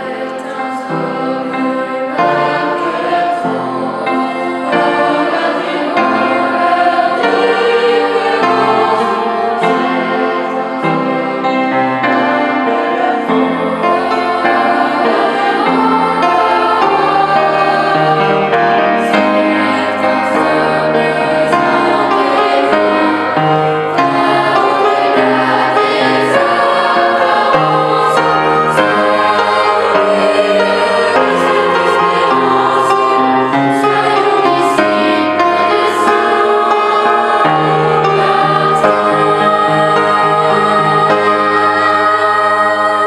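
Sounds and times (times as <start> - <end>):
children's choir singing a hymn: 0.0 - 43.0
low accompanying notes: 0.0 - 43.0.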